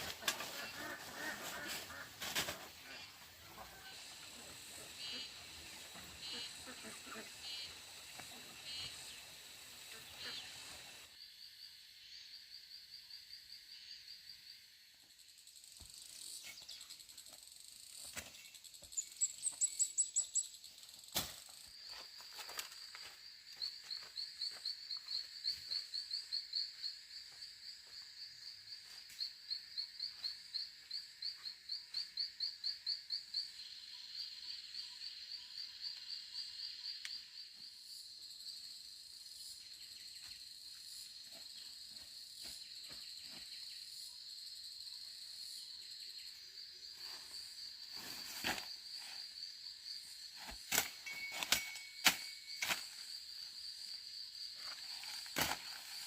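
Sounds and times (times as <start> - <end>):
insects buzzing: 0.0 - 56.0
rhythmic insect chirps: 0.0 - 56.0.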